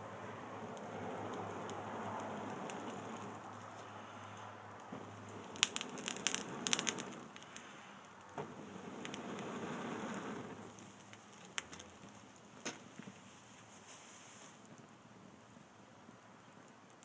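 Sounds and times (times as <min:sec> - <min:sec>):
fire rushing hiss: 0:00.0 - 0:16.0
burning wood crackling and popping: 0:00.0 - 0:17.0.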